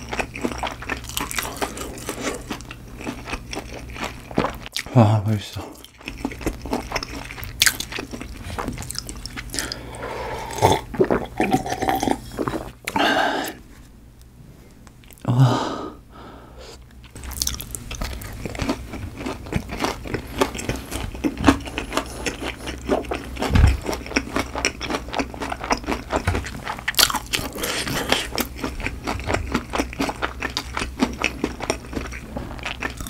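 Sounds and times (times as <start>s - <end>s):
crunching and chewing crispy food: 0.0s - 4.9s, 5.6s - 13.0s, 16.9s - 33.0s.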